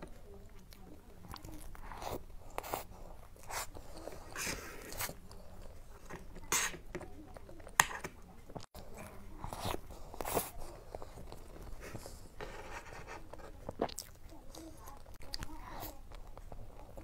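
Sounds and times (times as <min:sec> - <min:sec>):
chewing with wet mouth sounds: 0:00.0 - 0:12.3, 0:13.3 - 0:17.0.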